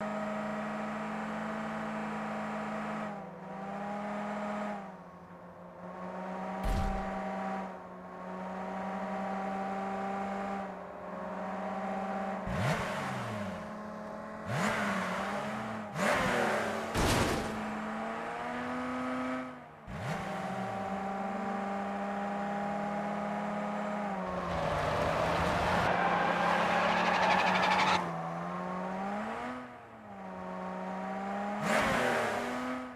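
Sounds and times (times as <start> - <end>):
car engine running: 3.9 - 31.6.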